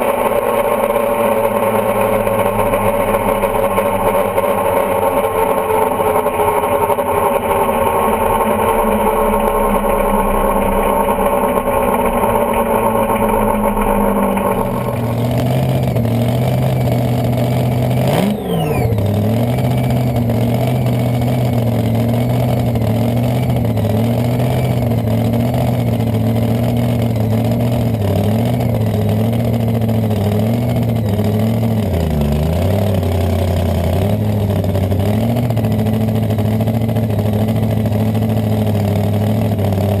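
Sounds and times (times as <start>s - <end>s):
dragster engine running: 0.0s - 40.0s.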